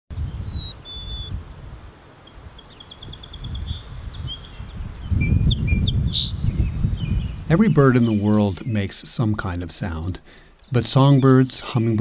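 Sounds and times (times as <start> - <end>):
sparrow singing: 0.1 - 1.4, 2.2 - 12.0.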